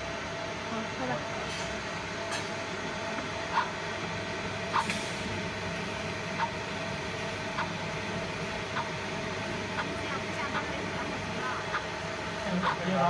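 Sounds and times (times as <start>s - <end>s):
laser machine humming: 0.0s - 13.0s.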